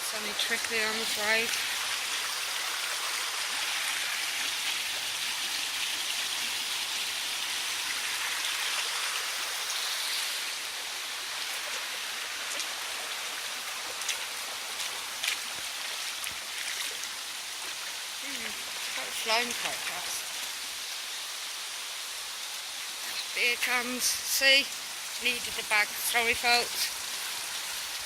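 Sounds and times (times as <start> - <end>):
water running over stones: 0.0 - 28.0.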